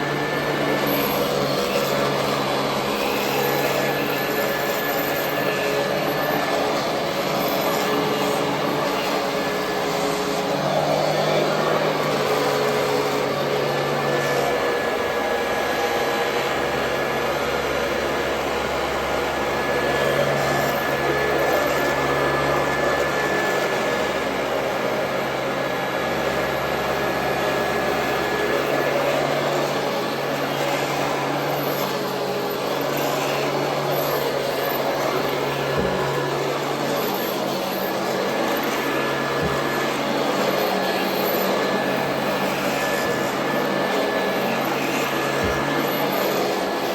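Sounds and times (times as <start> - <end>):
upright vacuum cleaner running: 0.0 - 46.9.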